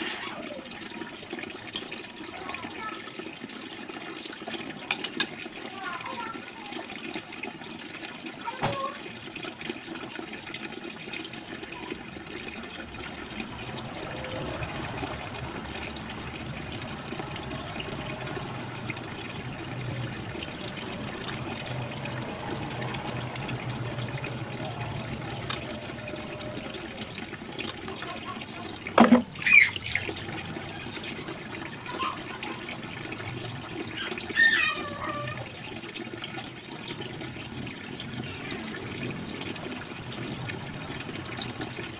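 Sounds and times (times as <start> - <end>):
water: 0.0 - 41.9.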